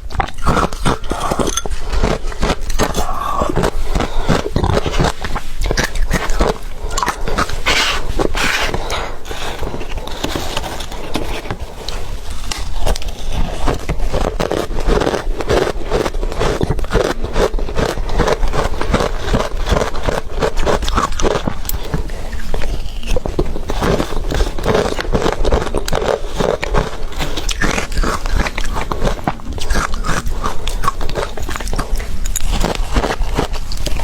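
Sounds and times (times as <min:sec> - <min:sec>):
crunching and chewing ice: 0:00.0 - 0:34.0.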